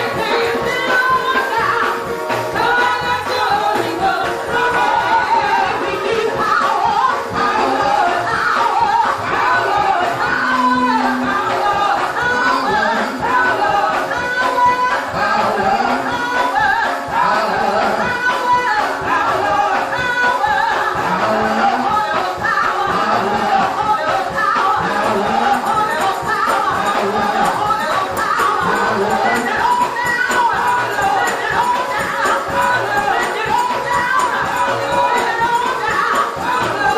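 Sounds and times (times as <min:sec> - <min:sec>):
gospel choir singing: 0:00.0 - 0:36.9.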